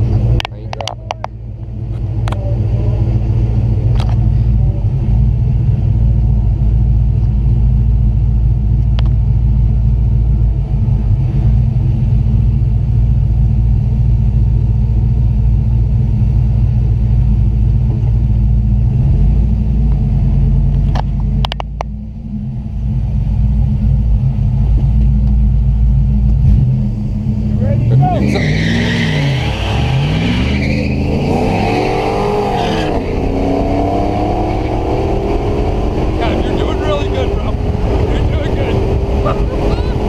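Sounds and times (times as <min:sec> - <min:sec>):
engine idling with deep rumble: 0:00.0 - 0:29.0, 0:35.6 - 0:40.0.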